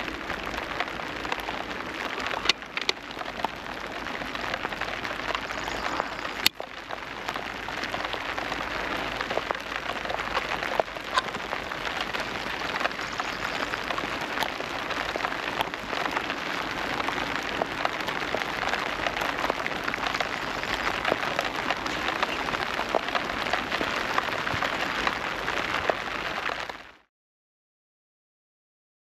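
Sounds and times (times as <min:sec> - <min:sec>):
rain falling: 0:00.0 - 0:27.1.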